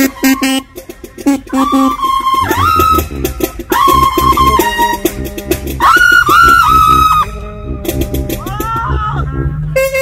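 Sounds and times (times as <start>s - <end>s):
brass horns playing: 0.0s - 10.0s
low rumble: 1.0s - 10.0s.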